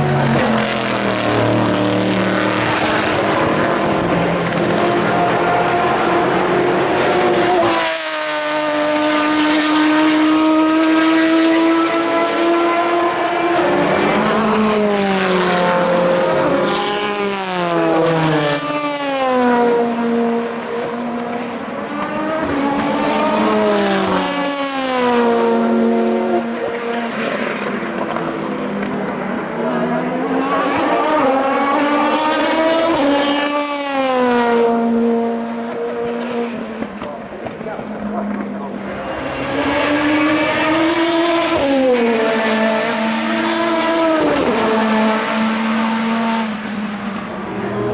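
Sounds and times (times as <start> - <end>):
race cars passing at speed: 0.0 - 47.9.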